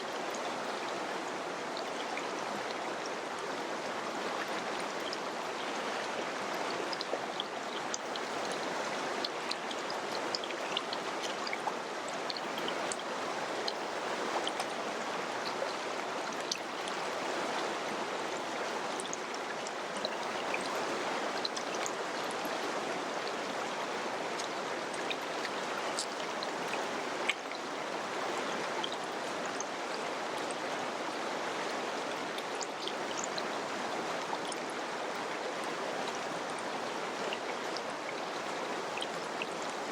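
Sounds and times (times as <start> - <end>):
river water rushing: 0.0 - 39.9
small water splashes and drips: 0.0 - 39.9.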